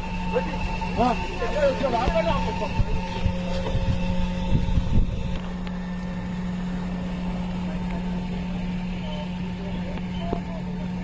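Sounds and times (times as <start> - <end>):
helicopter drone: 0.0 - 11.0.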